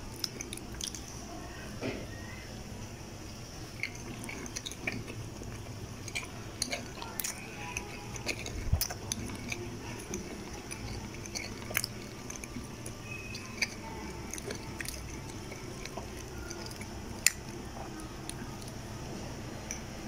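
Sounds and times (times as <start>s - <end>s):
person chewing food: 0.0s - 1.4s, 3.4s - 20.0s.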